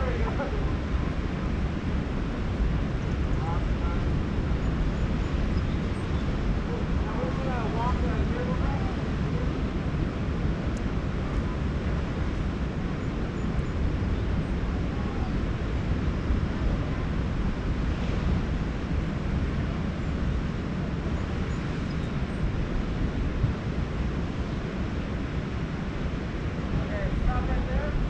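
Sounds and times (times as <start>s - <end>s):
ocean surf: 0.0s - 28.0s
wind rumbling on microphone: 0.0s - 28.0s.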